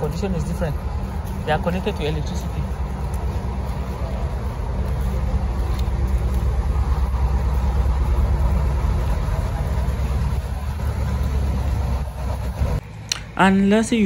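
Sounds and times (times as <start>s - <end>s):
low machinery drone: 0.0s - 14.0s.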